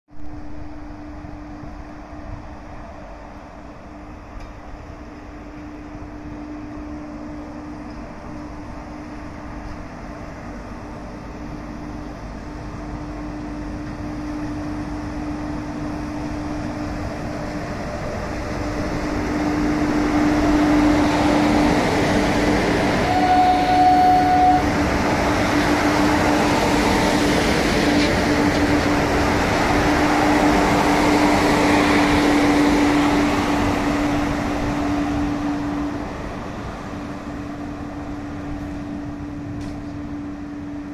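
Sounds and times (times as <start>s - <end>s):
locomotive hum: 0.1s - 40.9s
wheels rumbling on rails: 0.1s - 40.9s.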